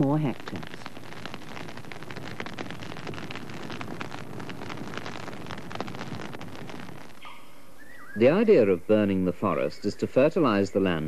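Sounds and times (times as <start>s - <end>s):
dry grass burning crackling: 0.0s - 11.0s
soft hiss: 0.0s - 11.0s.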